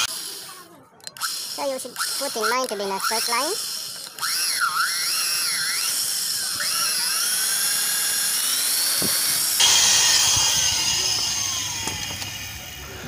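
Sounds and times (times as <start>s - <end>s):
electric drill whining into metal: 0.0s - 13.0s.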